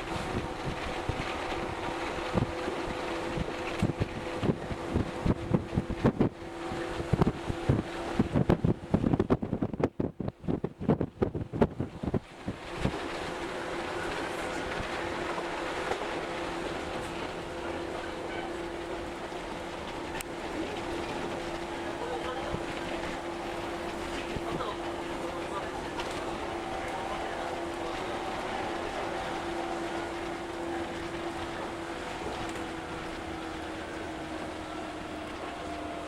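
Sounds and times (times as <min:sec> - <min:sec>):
train running noise: 0:00.0 - 0:09.8, 0:11.3 - 0:36.0
train hum: 0:00.0 - 0:36.0.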